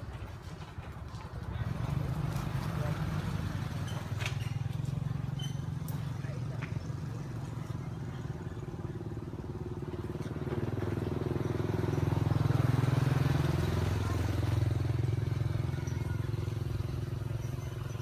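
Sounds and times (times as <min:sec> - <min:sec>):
small vehicle engine passing by: 0:00.4 - 0:18.0.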